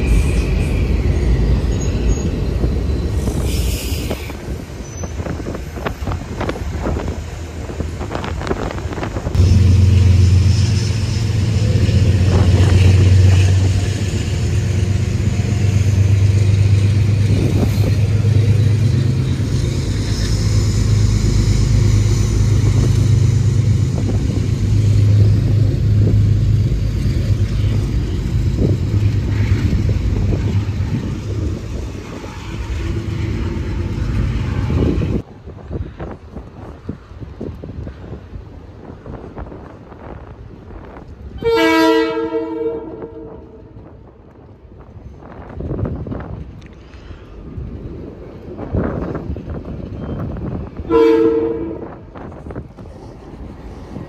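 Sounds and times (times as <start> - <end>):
loud low train hum: 0.0 - 54.0.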